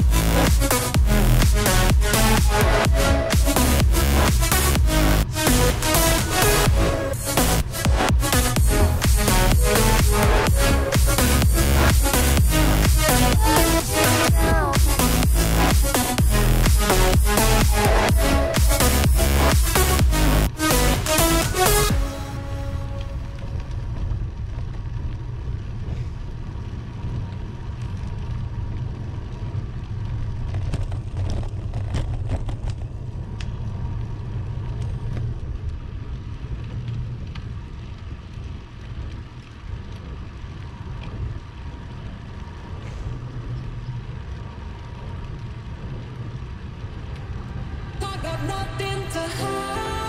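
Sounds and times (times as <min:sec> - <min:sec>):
wind and road noise: 0:00.0 - 0:50.0.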